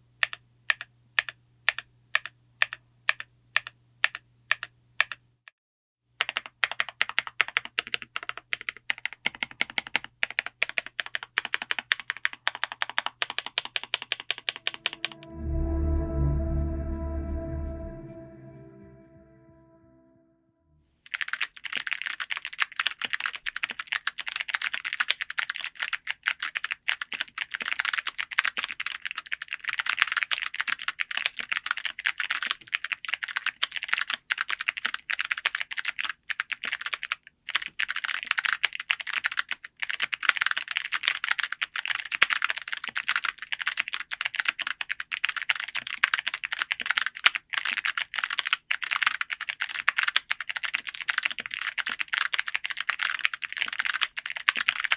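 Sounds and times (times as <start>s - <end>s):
typing on mechanical keyboard: 0.2s - 5.2s, 6.2s - 15.2s, 21.1s - 54.9s.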